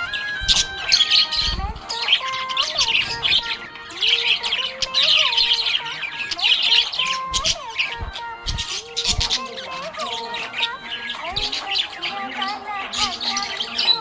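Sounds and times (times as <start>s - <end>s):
budgerigars chirping and warbling: 0.0s - 14.0s.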